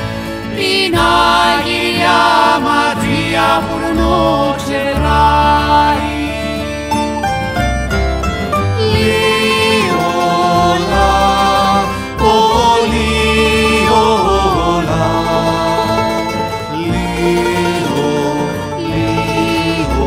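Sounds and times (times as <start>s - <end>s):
person singing folk song: 0.0s - 7.6s, 8.5s - 20.0s
instrumental accompaniment: 0.0s - 20.0s.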